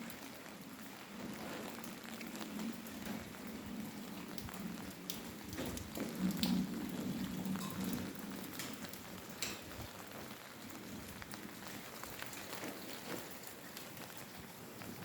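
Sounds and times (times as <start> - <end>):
rain drops ticking: 0.0 - 15.0.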